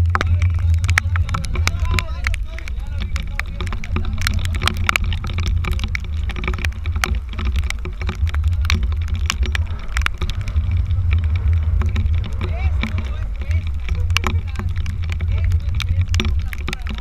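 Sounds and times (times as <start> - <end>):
raindrops ticking on camera housing: 0.0 - 17.0
wind buffeting camera: 0.0 - 17.0.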